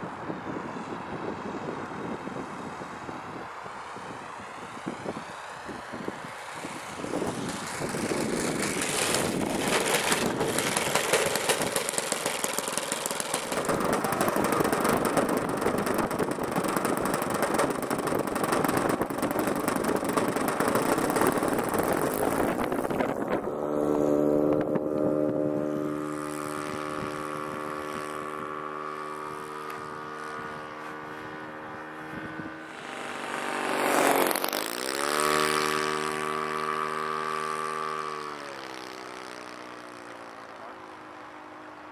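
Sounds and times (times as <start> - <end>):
model plane engine running: 1.7 - 41.9
model plane engine idling: 6.4 - 24.0, 25.7 - 41.8.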